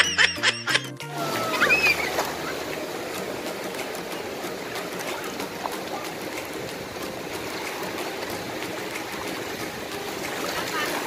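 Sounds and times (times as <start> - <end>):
small waves washing over sand: 1.1 - 11.0.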